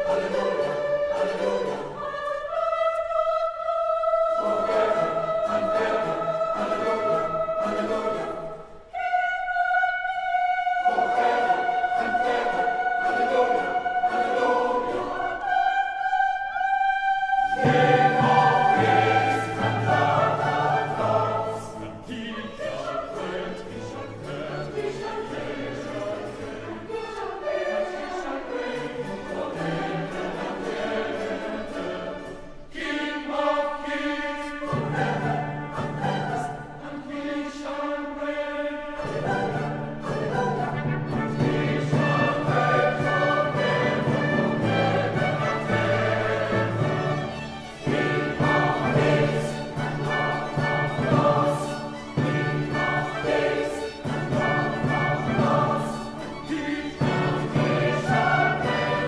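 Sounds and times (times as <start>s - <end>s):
choir and orchestra choral music: 0.0s - 59.0s.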